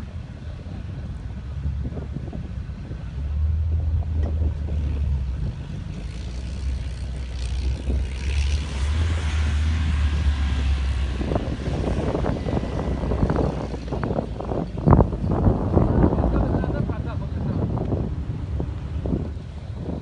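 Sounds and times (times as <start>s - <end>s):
vehicle engine revving under load: 1.8s - 20.0s.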